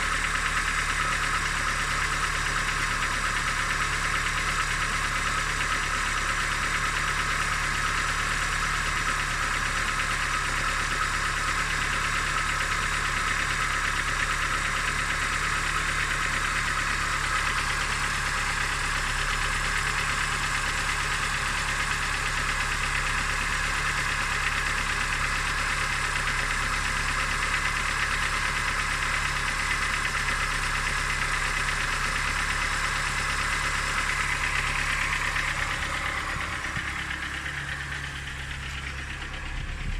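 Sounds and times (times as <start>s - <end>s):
engine idling with rapid knock: 0.0s - 39.9s.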